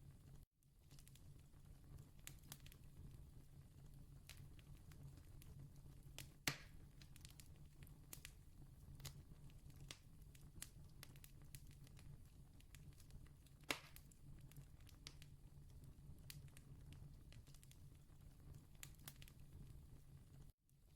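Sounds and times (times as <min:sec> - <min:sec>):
distant campfire crackling: 0:00.0 - 0:20.9.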